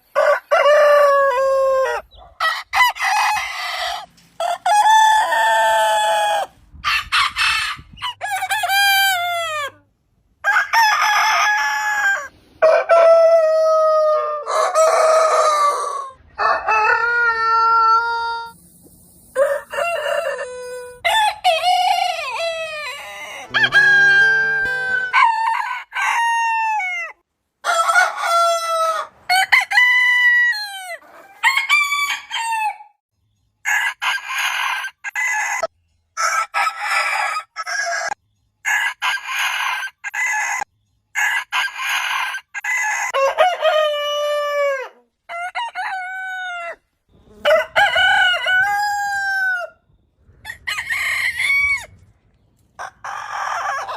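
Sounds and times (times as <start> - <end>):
roosters crowing: 0.0 - 9.8, 10.4 - 18.6, 19.3 - 32.8, 33.7 - 49.8, 50.4 - 52.0, 52.8 - 53.9.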